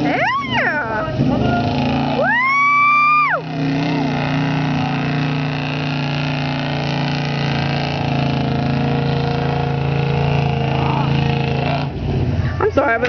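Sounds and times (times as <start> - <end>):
truck engine revving high: 0.0 - 12.7.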